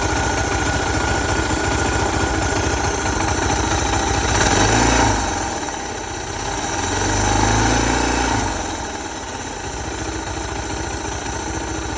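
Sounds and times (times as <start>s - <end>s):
motorcycle engine idling and revving: 0.0s - 11.9s.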